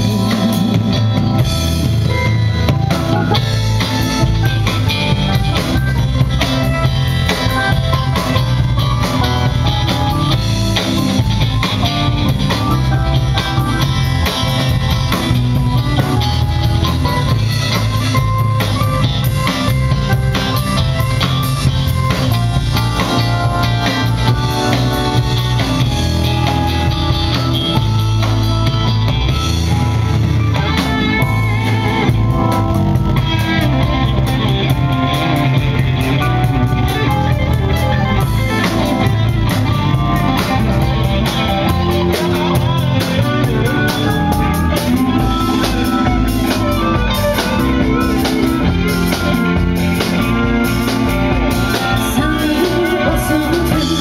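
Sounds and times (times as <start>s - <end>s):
drum kit: 0.0s - 54.0s
electric guitar: 0.0s - 54.0s
keyboard: 0.0s - 54.0s.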